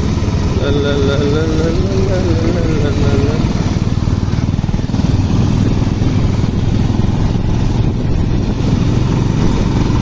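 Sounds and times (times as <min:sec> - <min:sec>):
motorcycle engine running: 0:00.0 - 0:10.0
wind buffeting microphone: 0:01.7 - 0:10.0.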